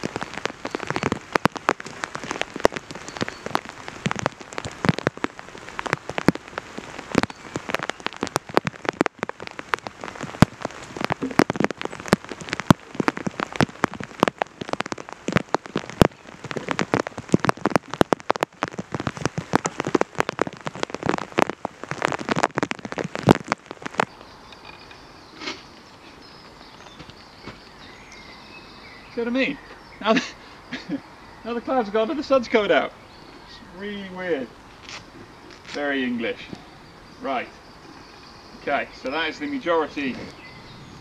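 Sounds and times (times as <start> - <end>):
rain drops hitting close: 0.0 - 41.0
steady rain hiss: 0.0 - 41.0.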